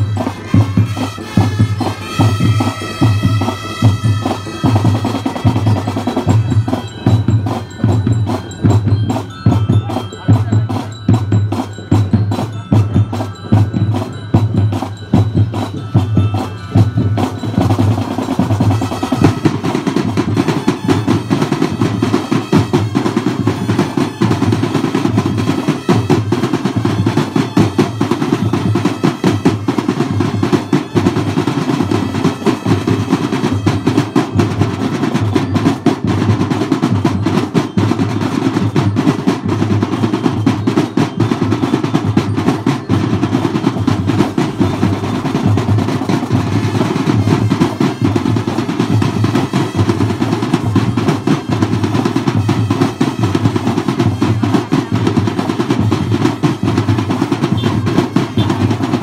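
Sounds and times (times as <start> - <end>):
snare drum strokes: 0.0 - 59.0.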